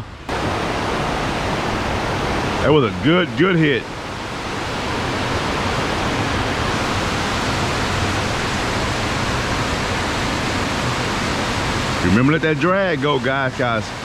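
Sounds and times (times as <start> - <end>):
fast-flowing water rushing: 0.1 - 14.0.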